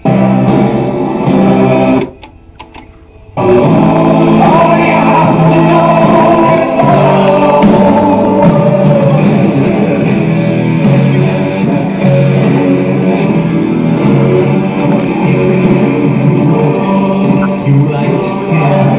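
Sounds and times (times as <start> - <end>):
song with guitar and singing: 0.0 - 18.9.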